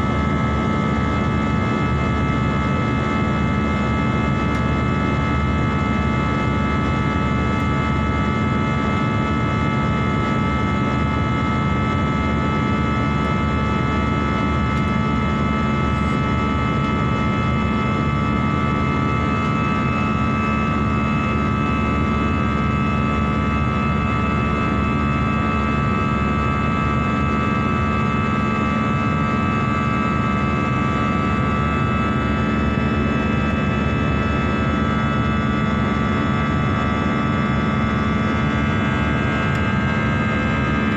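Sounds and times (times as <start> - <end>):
jet airliner cabin drone: 0.0 - 40.9.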